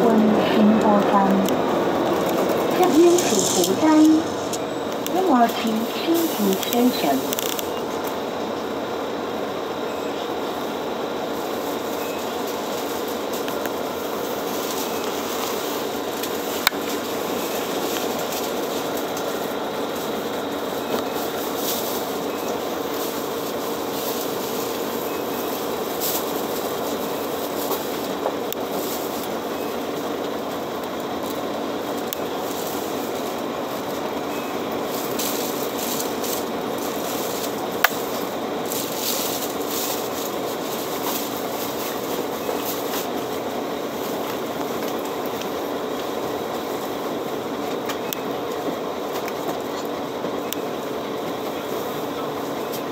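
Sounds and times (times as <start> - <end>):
bus engine idling: 0.0 - 52.9.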